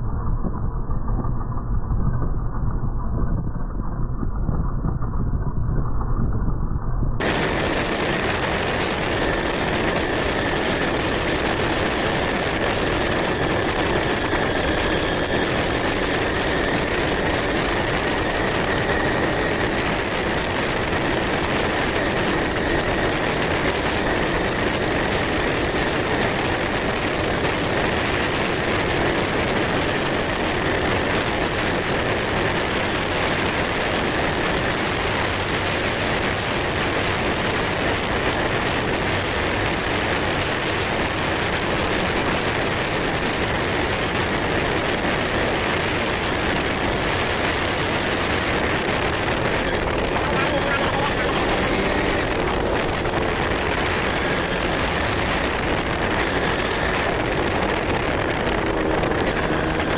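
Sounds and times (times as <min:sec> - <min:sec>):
riding noise rush: 0:00.0 - 0:59.9
two-stroke engine running: 0:07.2 - 0:59.9.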